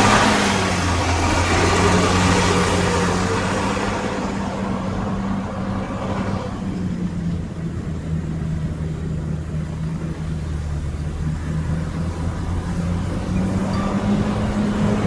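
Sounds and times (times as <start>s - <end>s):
diesel engine running: 0.0s - 15.0s
rough loud machine noise: 0.0s - 15.0s.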